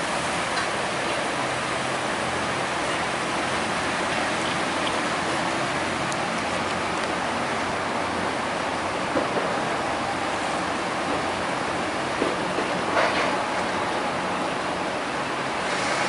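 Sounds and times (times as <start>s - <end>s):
rushing churning water: 0.0s - 16.0s.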